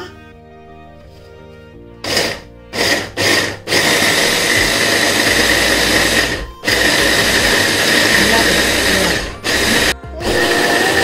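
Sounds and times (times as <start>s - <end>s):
electric hand blender whining: 2.0s - 11.0s.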